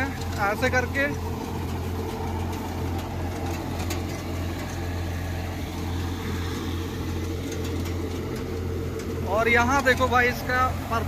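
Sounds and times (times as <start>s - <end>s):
seeder churning through stubble: 0.0s - 11.0s
tractor diesel engine running: 0.0s - 11.0s.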